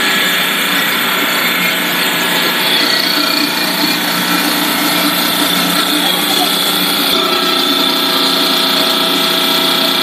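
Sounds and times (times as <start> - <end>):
factory machinery din: 0.0 - 10.0.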